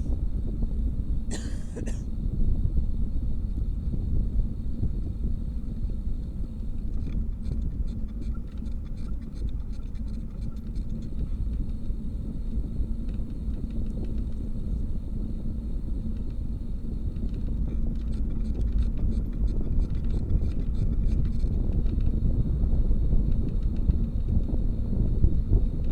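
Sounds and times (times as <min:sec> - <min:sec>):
wind rumbling on microphone: 0:00.0 - 0:25.9.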